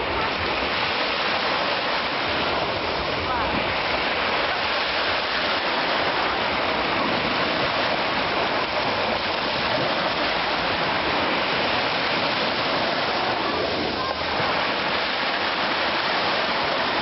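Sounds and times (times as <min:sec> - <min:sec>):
surf washing on shore: 0:00.0 - 0:17.0.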